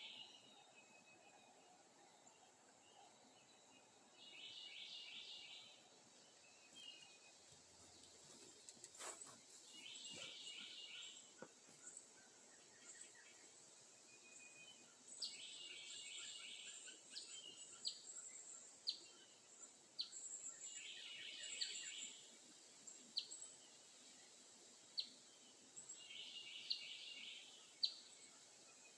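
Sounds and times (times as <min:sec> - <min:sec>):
bird warbling song: 0:00.0 - 0:24.3, 0:24.9 - 0:28.9.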